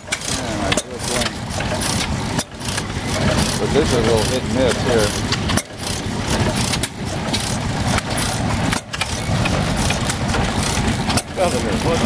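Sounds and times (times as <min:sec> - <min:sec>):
stationary gas engine firing: 0:00.0 - 0:12.0.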